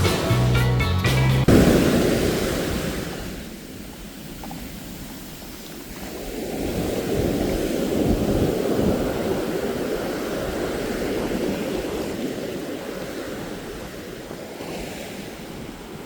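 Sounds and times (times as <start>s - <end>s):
surf waves breaking: 1.4s - 16.0s.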